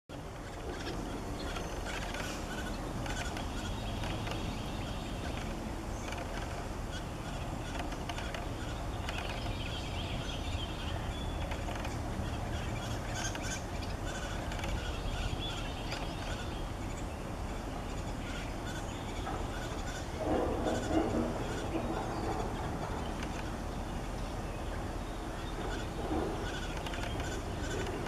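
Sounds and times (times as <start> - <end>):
fledglings begging calls: 0.1 - 28.0
low background rumble: 0.1 - 28.0.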